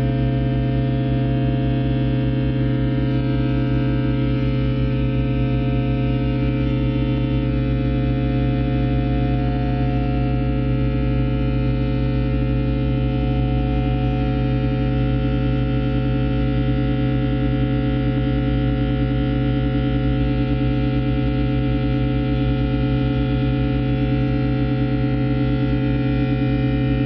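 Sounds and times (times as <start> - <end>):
drone music sustained tones: 0.0 - 27.0.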